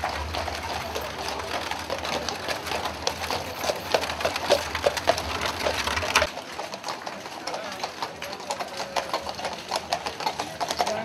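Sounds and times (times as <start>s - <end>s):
hooves clip-clopping on brick: 0.0s - 11.0s.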